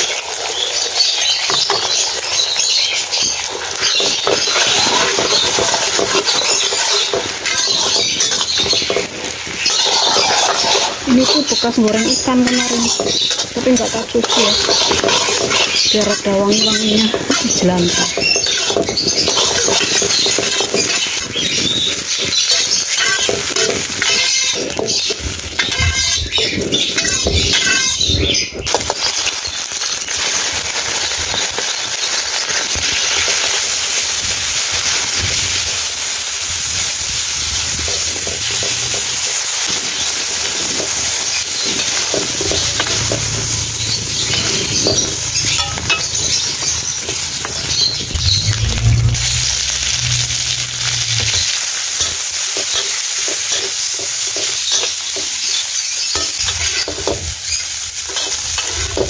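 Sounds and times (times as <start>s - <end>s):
meat sizzling in hot oil: 0.0s - 59.0s
metal spatula scraping a pan: 3.2s - 29.3s, 37.6s - 59.0s.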